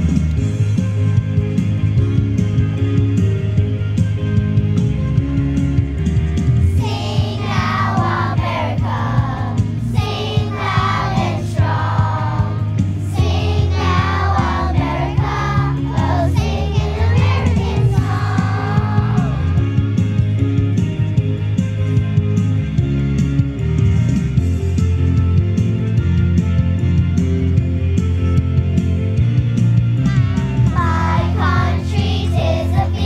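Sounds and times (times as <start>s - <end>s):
bass and guitar: 0.0s - 33.0s.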